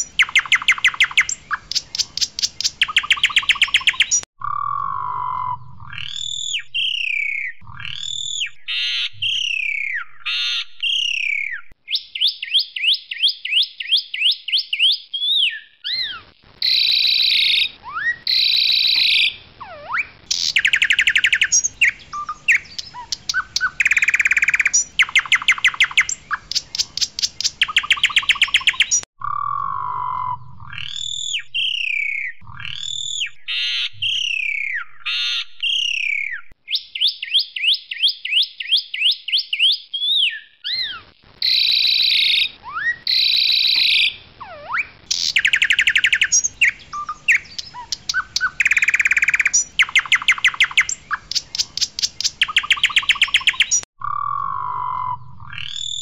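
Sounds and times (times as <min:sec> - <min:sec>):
starling singing trills and whistles: 0:00.0 - 0:56.0.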